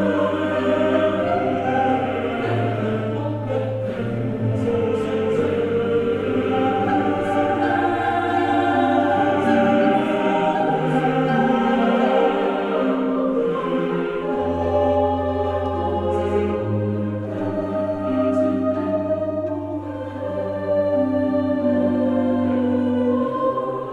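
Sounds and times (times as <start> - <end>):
choir voices: 0.0 - 23.9
slow background music: 0.0 - 23.9.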